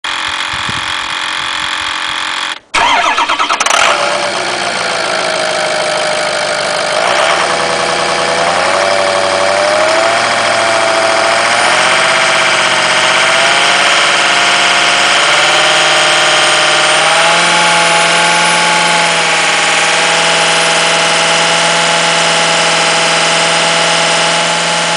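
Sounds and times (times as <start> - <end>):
diesel engine starting and idling: 0.1 - 24.9
wavering turbo whine: 0.1 - 24.9.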